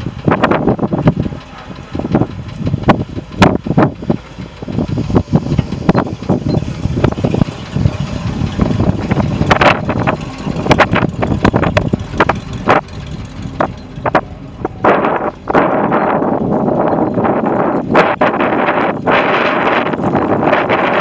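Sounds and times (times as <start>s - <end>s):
scattered clicks and knocks: 0.0s - 19.0s
truck engine running: 0.0s - 21.0s
wind buffeting microphone: 0.0s - 21.0s.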